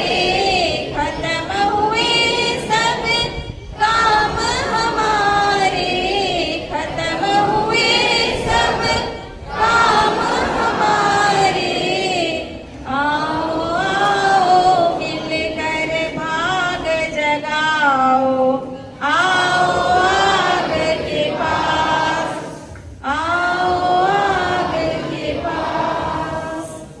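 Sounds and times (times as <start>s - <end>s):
group of voices singing: 0.0s - 27.0s.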